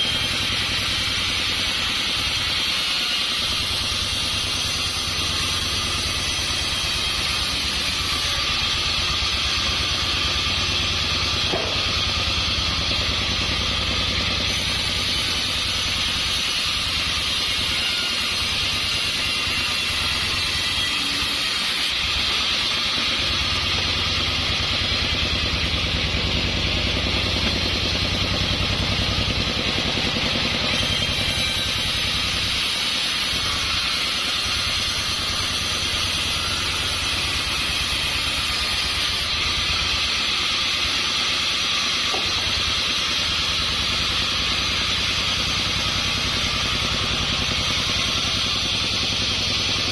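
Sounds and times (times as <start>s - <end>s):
bandsaw cutting log: 0.0s - 49.9s.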